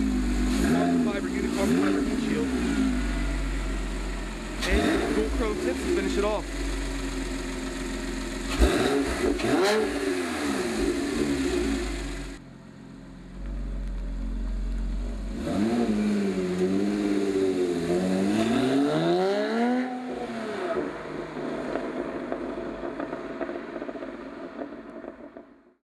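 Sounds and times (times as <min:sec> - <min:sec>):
car engine idling and revving: 0:00.0 - 0:25.5.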